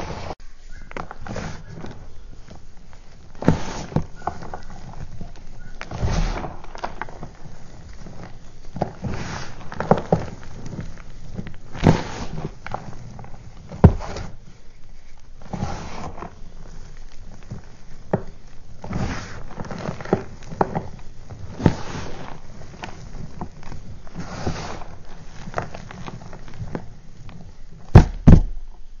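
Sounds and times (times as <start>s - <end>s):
chalk crunching and sifting: 0.0s - 27.9s.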